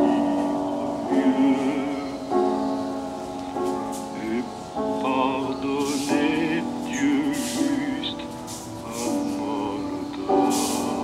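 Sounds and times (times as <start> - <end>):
slow sustained chords: 0.0 - 11.0.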